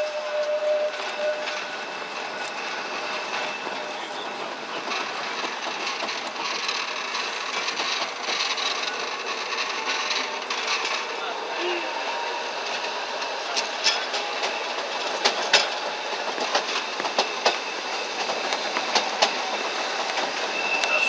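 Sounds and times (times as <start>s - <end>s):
tram running on street track: 0.0s - 21.0s.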